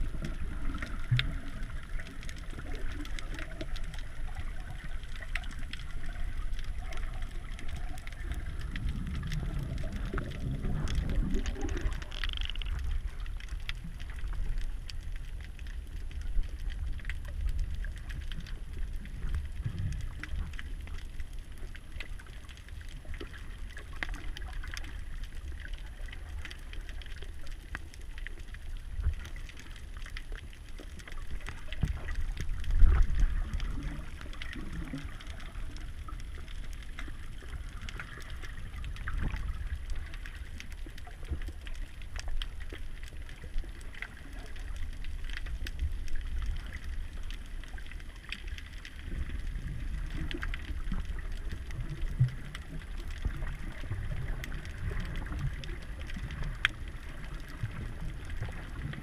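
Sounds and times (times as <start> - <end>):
faint underwater clicks and crackles: 0.0 - 59.0
underwater rumble of moving water: 0.0 - 59.0.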